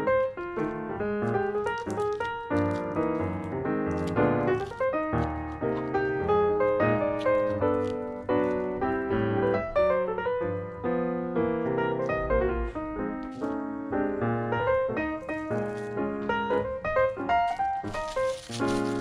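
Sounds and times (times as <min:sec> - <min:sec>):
light piano melody: 0:00.0 - 0:19.0.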